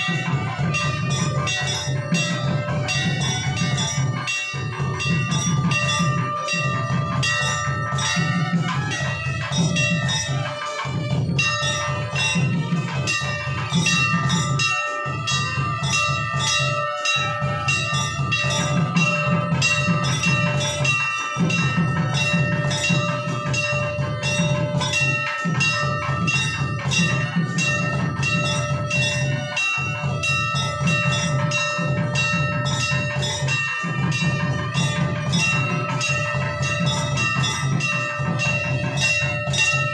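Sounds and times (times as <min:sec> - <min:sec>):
temple bells ringing rapidly: 0:00.0 - 0:39.9.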